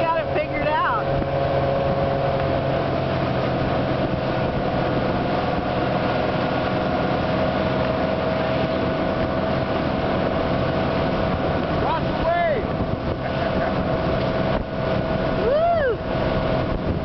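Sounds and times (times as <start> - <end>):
motorboat engine running: 0.0 - 17.0
water rushing: 0.0 - 17.0.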